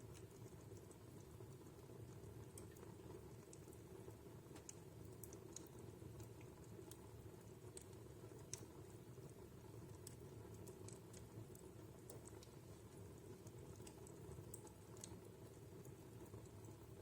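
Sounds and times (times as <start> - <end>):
fireplace crackling faintly: 0.0 - 17.0.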